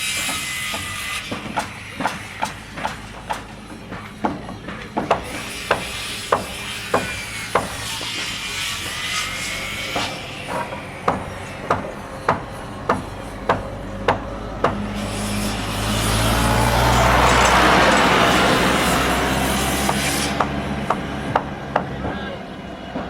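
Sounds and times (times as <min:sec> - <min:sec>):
construction site noise: 0:00.0 - 0:23.0
hammer blows: 0:00.0 - 0:23.0.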